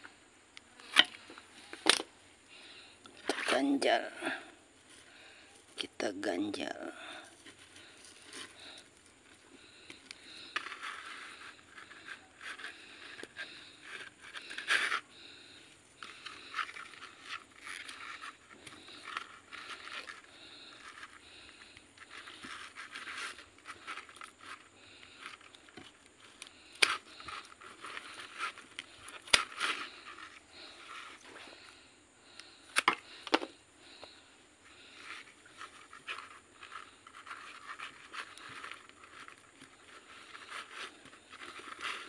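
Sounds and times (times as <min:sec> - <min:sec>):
hands scraping dry roots: 0:00.8 - 0:42.0.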